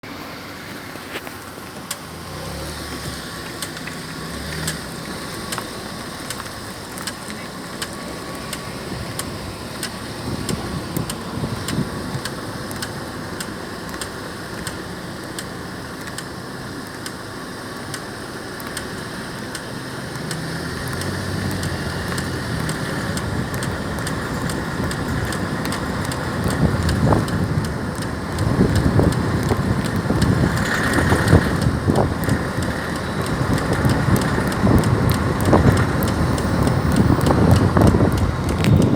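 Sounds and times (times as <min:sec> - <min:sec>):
engine and road rumble: 0:00.0 - 0:38.9
car wheel ticking: 0:01.0 - 0:38.9.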